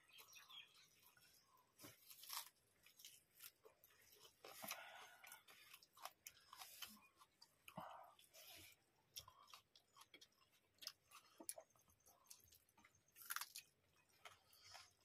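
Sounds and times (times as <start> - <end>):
chewing and mouth smacks: 2.2 - 15.0.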